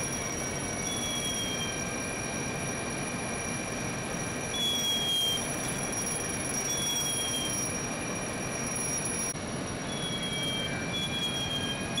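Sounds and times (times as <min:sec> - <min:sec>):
fire engine motor rumble: 0:00.0 - 0:12.0
thin high whines: 0:00.0 - 0:12.0.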